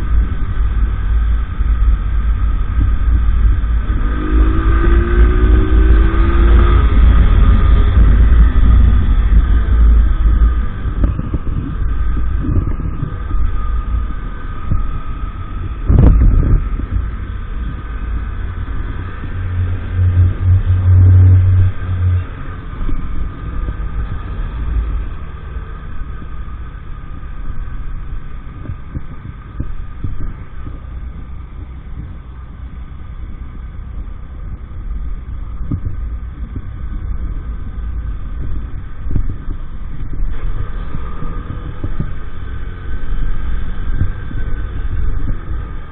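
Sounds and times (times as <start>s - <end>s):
moped engine running: 0.0s - 45.9s
wind rushing over microphone: 0.0s - 45.9s.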